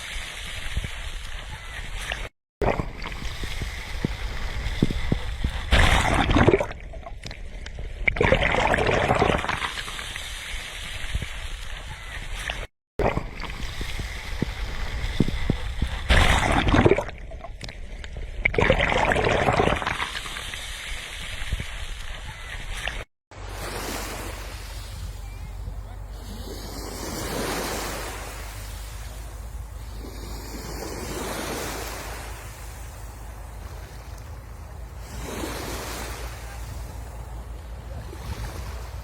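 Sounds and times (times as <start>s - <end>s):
sea waves breaking on shore: 0.0s - 39.0s.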